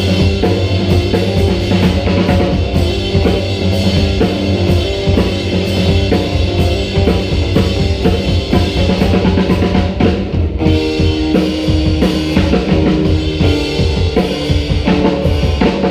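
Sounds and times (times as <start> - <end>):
drum kit beat: 0.0 - 15.9
electric keyboard: 0.0 - 15.9.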